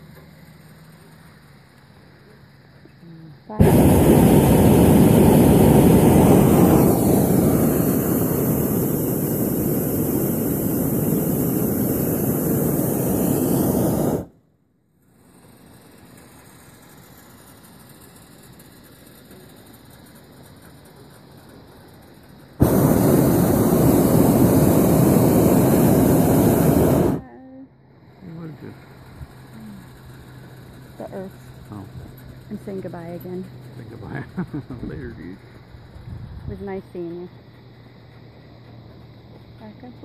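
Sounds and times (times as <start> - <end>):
propane burner blast: 3.4 - 14.4, 15.3 - 27.3, 28.0 - 40.0.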